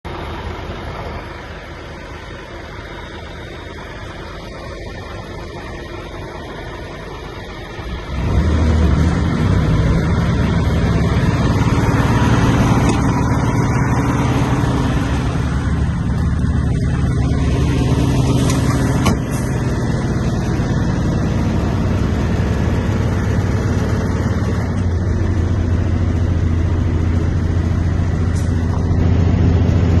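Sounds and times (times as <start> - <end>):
diesel truck engine idling: 0.1 - 30.0.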